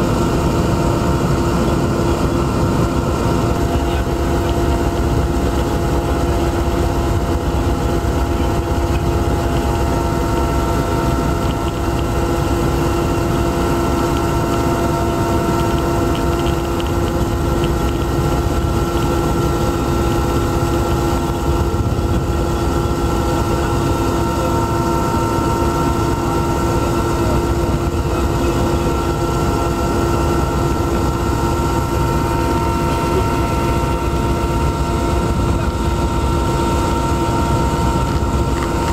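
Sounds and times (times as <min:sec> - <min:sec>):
aircraft engine drone in cabin: 0:00.0 - 0:38.9.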